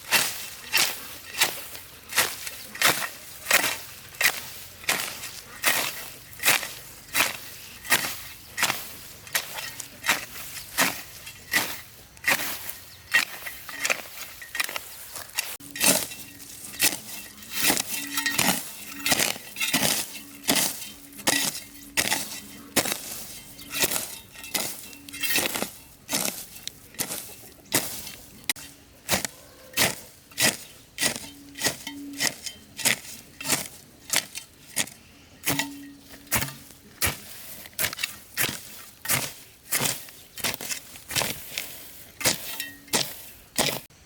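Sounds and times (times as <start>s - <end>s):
hand tool striking with clink: 0.0s - 43.9s.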